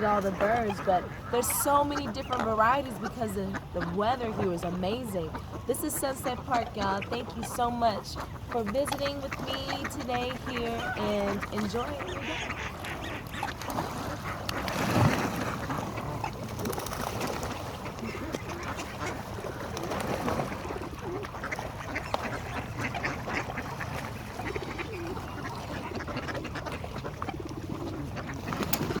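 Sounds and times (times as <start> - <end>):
flock of birds calling: 0.0 - 29.0.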